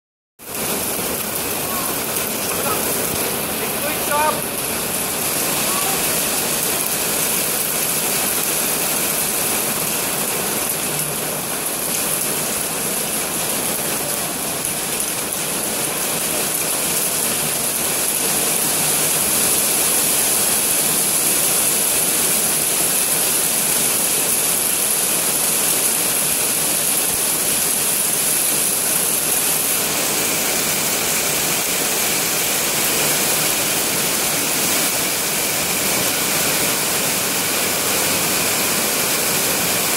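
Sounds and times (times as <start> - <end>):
heavy rain splashing on patio: 0.4 - 39.9.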